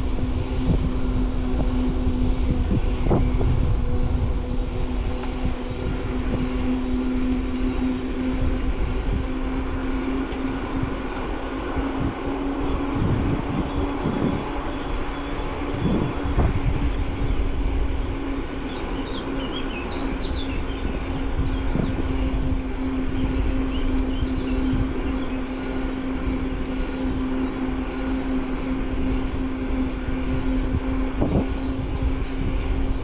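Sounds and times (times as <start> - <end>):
wind on microphone: 0.0 - 33.0.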